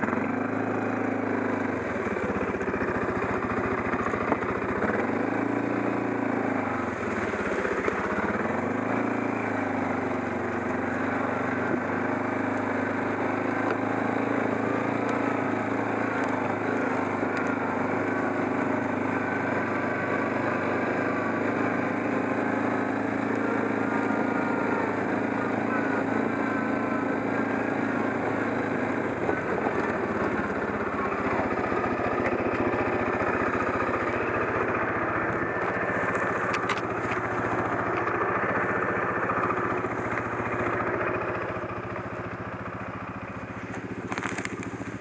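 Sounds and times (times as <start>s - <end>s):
quad bike engine running: 0.0s - 45.0s.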